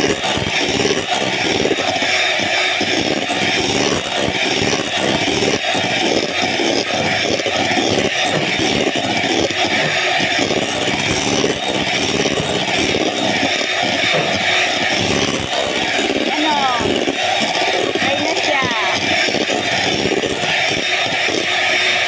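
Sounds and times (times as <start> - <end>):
electric mixer whipping cream: 0.0 - 22.0.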